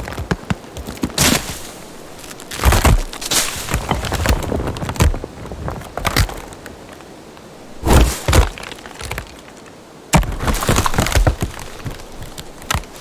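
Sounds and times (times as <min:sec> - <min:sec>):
wood cracking: 0:00.0 - 0:07.0, 0:07.6 - 0:13.0
wood splintering and crunching: 0:00.8 - 0:06.5, 0:07.6 - 0:13.0.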